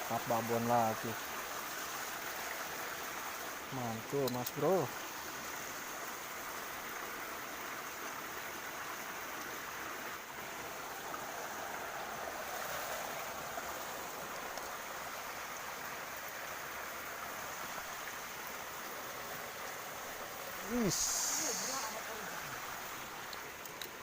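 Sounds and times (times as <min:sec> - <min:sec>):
waterfall and stream rushing: 0:00.0 - 0:24.0.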